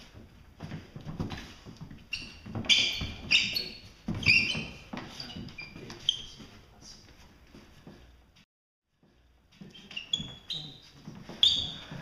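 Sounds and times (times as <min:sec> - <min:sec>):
feet squeaking on mat: 0:00.0 - 0:12.0.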